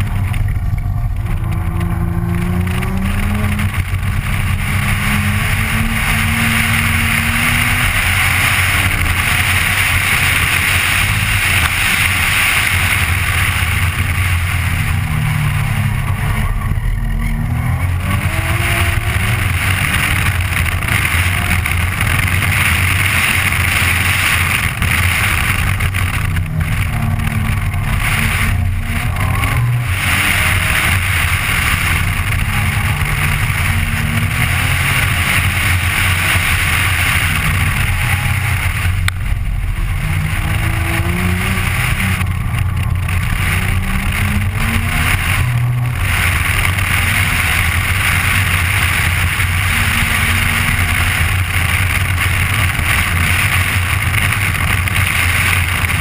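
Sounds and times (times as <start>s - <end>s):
car engine revving: 0.0s - 56.0s
wind noise: 0.0s - 56.0s.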